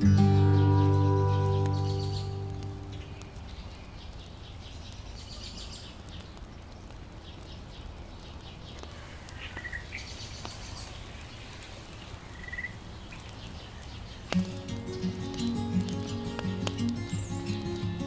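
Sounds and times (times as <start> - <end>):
birds chirping: 0.0 - 18.0
faint clicks: 1.4 - 11.8, 12.4 - 18.0.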